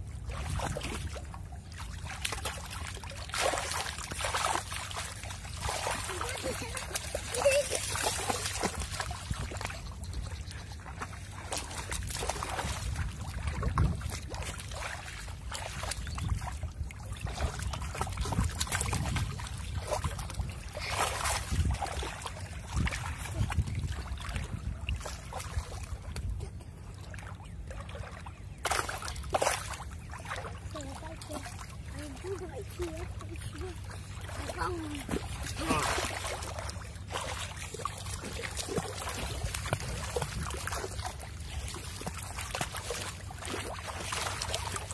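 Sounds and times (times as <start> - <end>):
shallow water splashing: 0.0 - 44.9.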